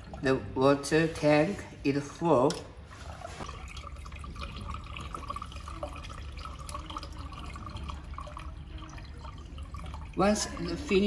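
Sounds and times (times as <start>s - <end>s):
water trickling and dripping: 0.0s - 0.5s, 2.5s - 11.0s.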